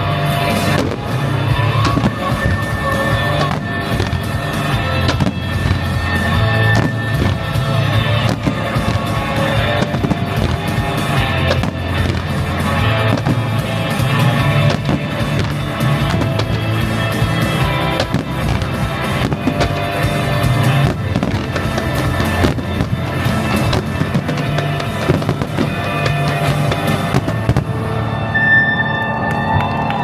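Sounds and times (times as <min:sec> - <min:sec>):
loud music with strong bass: 0:00.0 - 0:27.9
fireworks bangs and crackles: 0:00.0 - 0:28.8.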